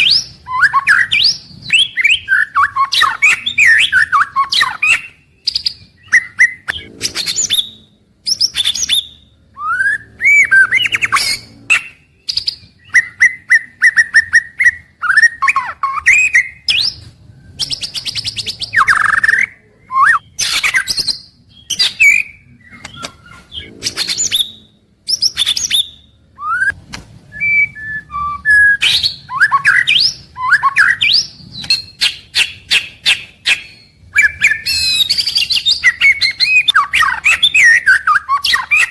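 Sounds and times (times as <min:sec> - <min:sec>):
bird singing whistles and chatters: 0:00.0 - 0:38.9.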